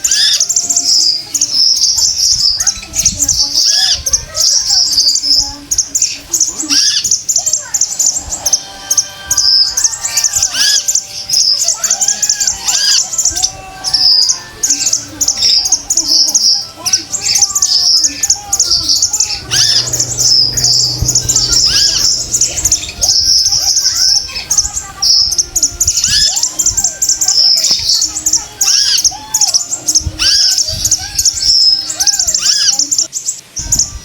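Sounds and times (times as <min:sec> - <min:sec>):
sunbird rapid high chirping: 0:00.0 - 0:34.0.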